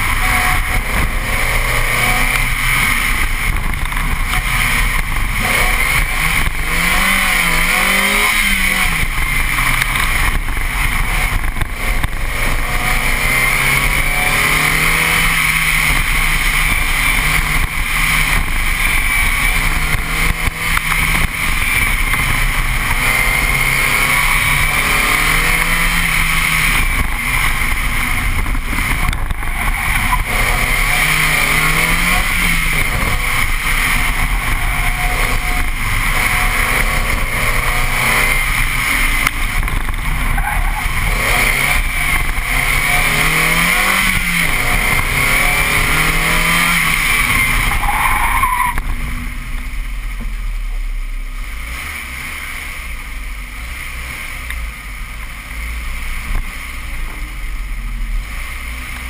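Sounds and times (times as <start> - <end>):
car engine rising and falling: 0.0 - 59.0
wind and tyre noise: 0.0 - 59.0.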